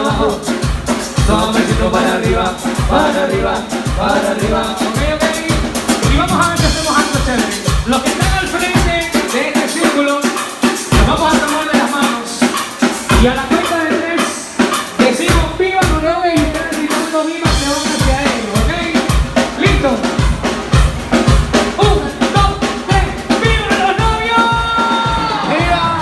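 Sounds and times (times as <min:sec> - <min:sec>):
bass drum beat: 0:00.0 - 0:26.0
live band playing dance music: 0:00.0 - 0:26.0
vocals: 0:00.0 - 0:26.0.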